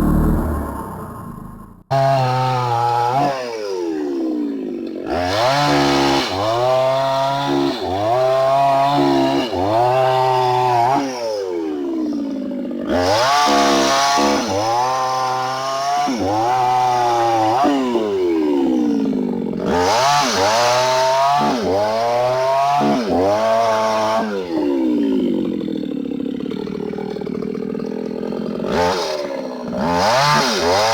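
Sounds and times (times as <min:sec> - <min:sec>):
chainsaw motor: 0:00.0 - 0:30.9.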